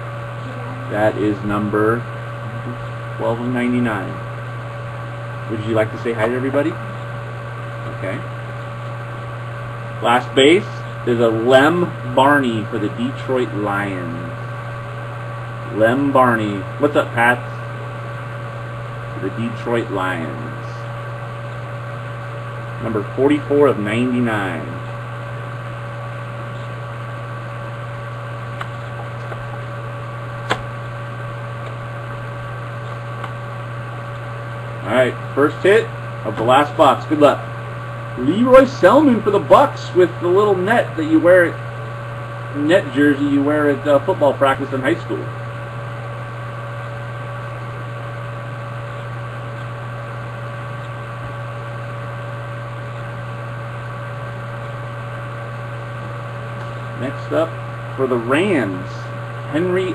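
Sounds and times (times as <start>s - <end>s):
electrical hum and hiss: 0.0s - 59.9s.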